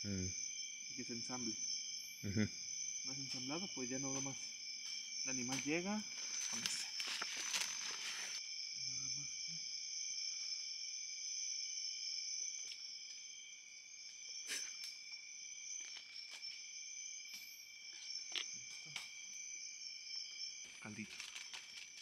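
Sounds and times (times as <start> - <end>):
night insects chorus: 0.0 - 22.0.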